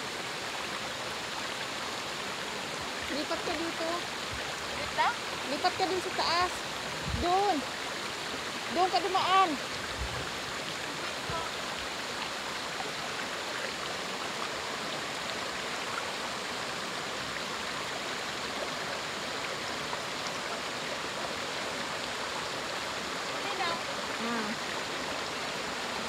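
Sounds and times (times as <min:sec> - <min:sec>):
stream flowing over rocks: 0:00.0 - 0:26.0.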